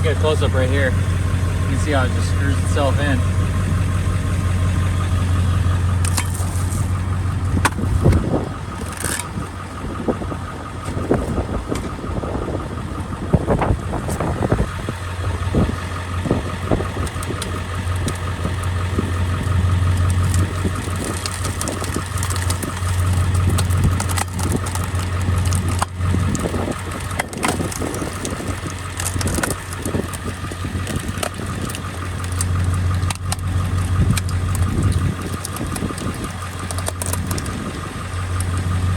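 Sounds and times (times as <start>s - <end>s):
truck engine idling: 0.0s - 38.9s
wood cracking and creaking: 0.0s - 38.9s.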